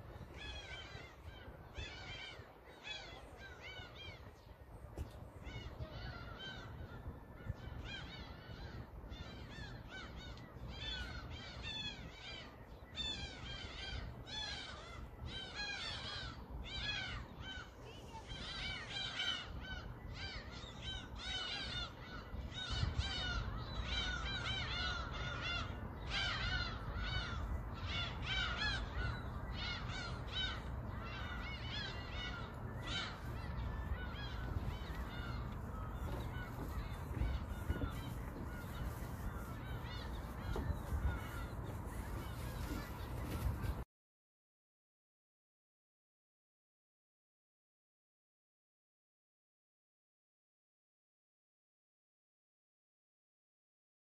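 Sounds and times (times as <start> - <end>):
birds calling harshly: 0.1 - 43.8.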